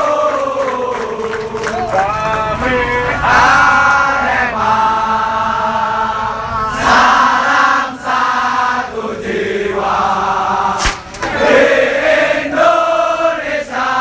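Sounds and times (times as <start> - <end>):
football crowd chanting: 0.0 - 14.0.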